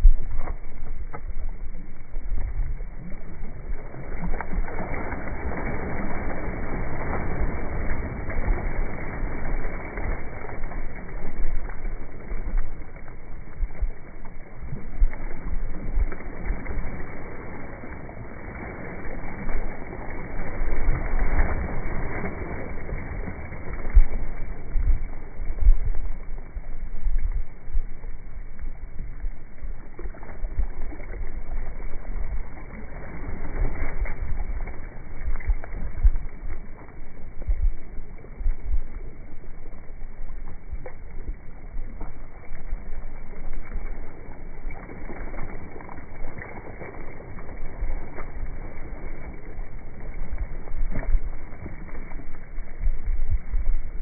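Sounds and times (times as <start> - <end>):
lake water noise: 0.0 - 54.0
wind buffeting the microphone: 0.0 - 54.0.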